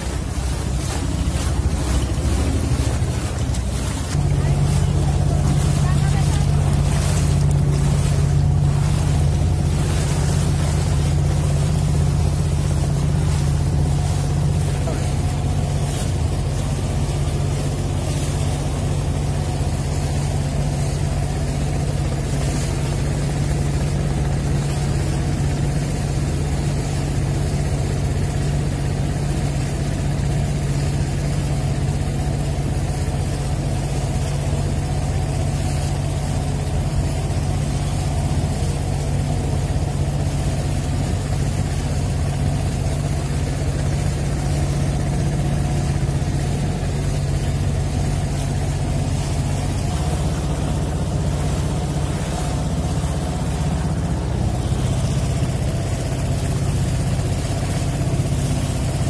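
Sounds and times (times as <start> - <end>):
boat engine drone: 0.0 - 59.0.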